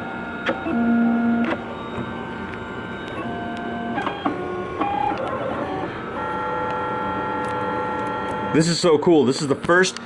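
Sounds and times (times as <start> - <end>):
stepper motors whining: 0.0 - 9.5.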